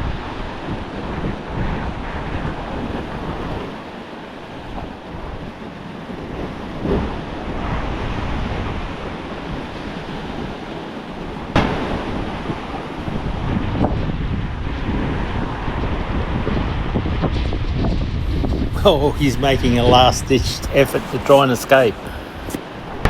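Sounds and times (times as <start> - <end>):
surf washing onto beach: 0.0 - 23.0
wind buffeting microphone: 0.0 - 23.0.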